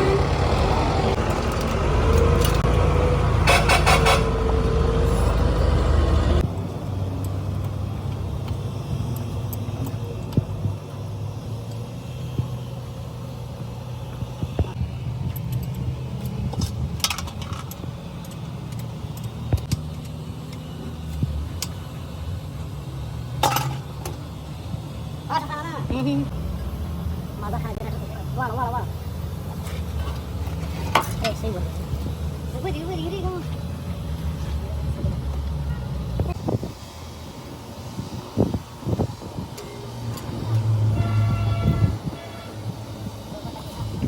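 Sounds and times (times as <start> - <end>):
heavy engine rumbling: 0.0 - 44.0.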